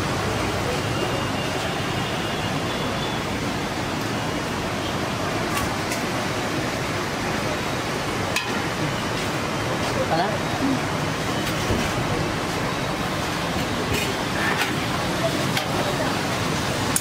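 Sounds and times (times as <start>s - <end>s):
street ambience rushing noise: 0.0s - 17.0s.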